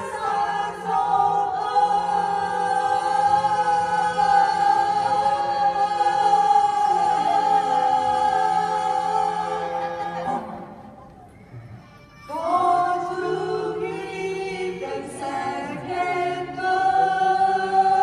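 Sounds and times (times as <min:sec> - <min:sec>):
choir singing through tv speaker: 0:00.0 - 0:11.2, 0:12.3 - 0:18.0.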